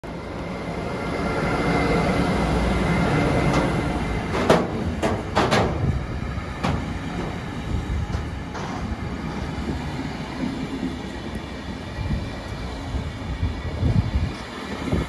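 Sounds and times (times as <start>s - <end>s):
electric locomotive whine: 0.0s - 15.0s
freight train rumbling by: 0.0s - 15.0s.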